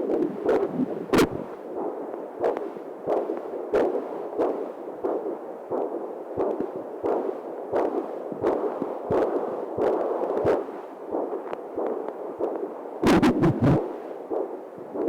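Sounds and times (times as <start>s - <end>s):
whooshing heartbeat pulses: 0.0s - 15.0s.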